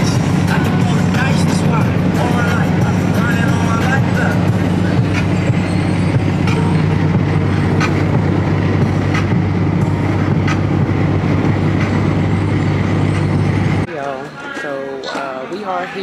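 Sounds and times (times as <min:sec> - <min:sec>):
car engine and tyre drone: 0:00.0 - 0:13.9.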